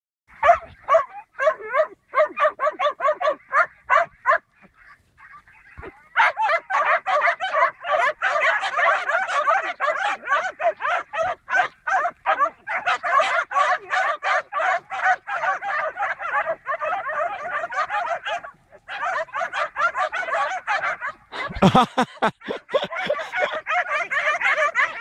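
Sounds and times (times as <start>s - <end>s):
puppies yapping and yelping: 0.4s - 25.0s.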